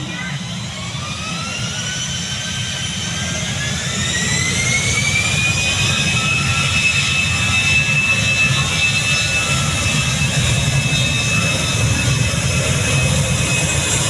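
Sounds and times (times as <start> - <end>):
jet engines spooling up whine: 0.0 - 14.0.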